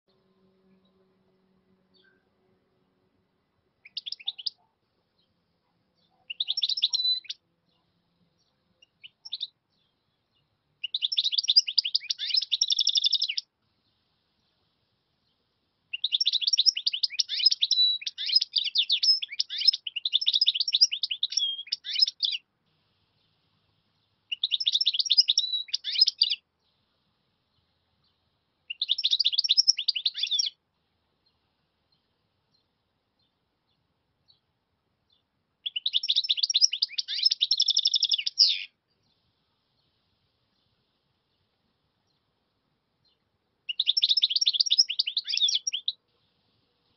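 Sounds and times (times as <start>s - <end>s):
bird twittering song: 0.1s - 2.3s, 3.8s - 34.5s, 35.1s - 46.9s.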